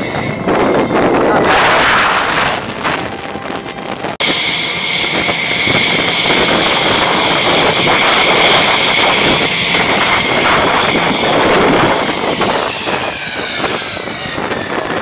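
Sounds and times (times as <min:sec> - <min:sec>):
jet engine with high whine: 0:00.0 - 0:15.0
wind noise: 0:00.0 - 0:15.0.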